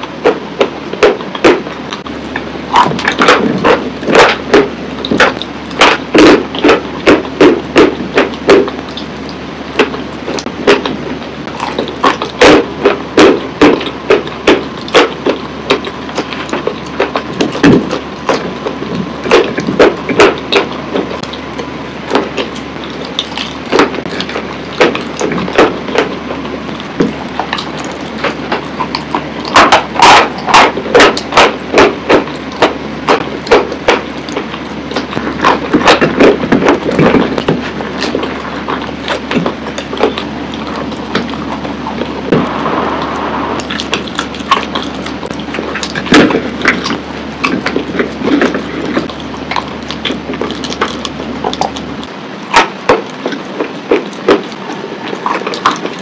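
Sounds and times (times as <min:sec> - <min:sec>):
chalk being chewed: 0:09.8 - 0:42.3, 0:43.6 - 0:56.0.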